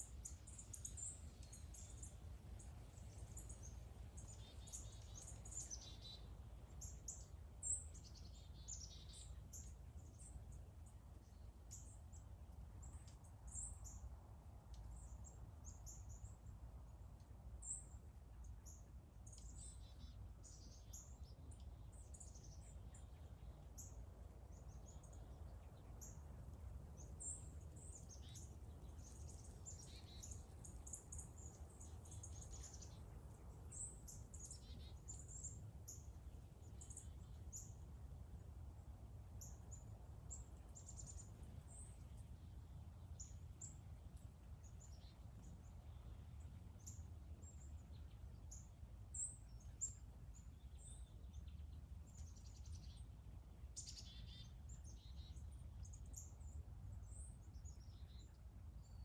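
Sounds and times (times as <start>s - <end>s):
small birds chirping: 0.0s - 16.5s, 17.2s - 59.0s.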